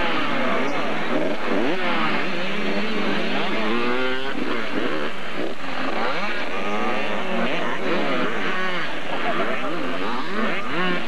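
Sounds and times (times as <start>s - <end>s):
two-stroke motocross bikes revving: 0.0s - 11.0s.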